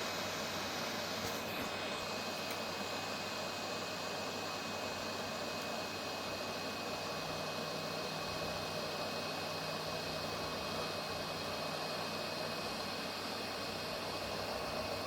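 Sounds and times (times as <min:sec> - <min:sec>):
faint high whine: 0:00.0 - 0:15.0
hot air blower hissing: 0:00.0 - 0:15.0.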